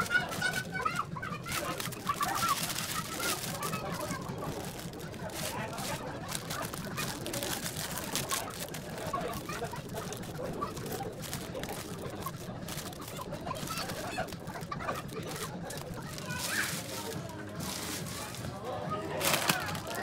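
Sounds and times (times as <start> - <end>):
plastic packets crinkling: 0.0 - 20.0.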